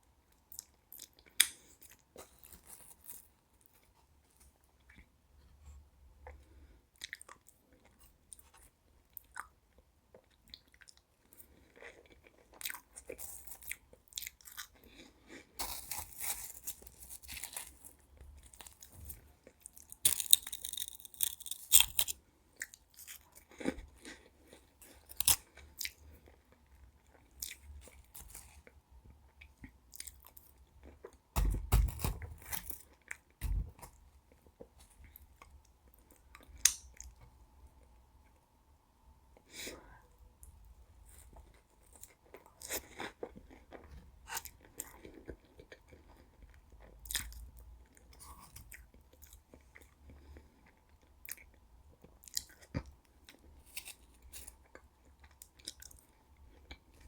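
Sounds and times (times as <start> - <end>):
chewing crunchy meringue: 0.3 - 4.0, 6.2 - 37.2, 41.0 - 57.0.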